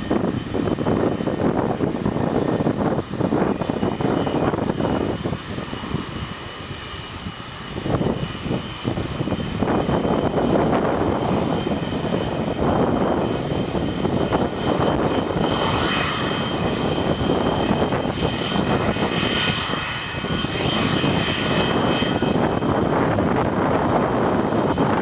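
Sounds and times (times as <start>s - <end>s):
high engine whine: 0.0s - 25.0s
jet engines roaring: 0.0s - 25.0s.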